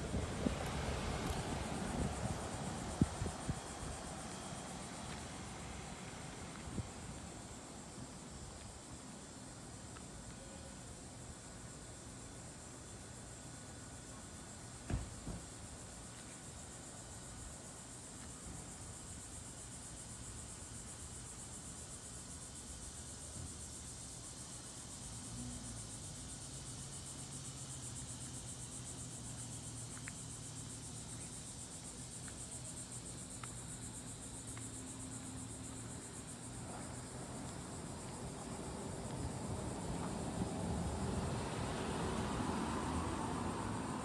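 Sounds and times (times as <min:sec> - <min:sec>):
insects buzzing: 0:00.0 - 0:44.0.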